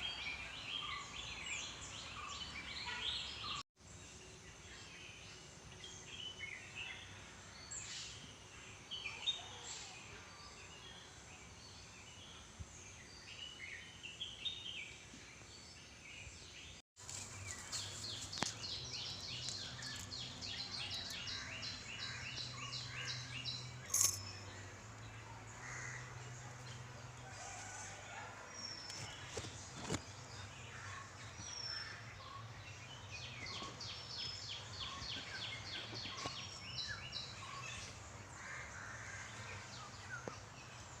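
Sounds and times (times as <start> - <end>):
songbirds trilling and chirping: 0.0 - 41.0.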